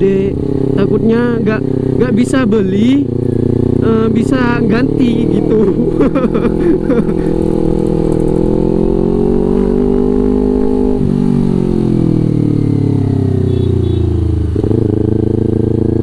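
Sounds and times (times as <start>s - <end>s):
motorcycle engine under way: 0.0s - 16.0s.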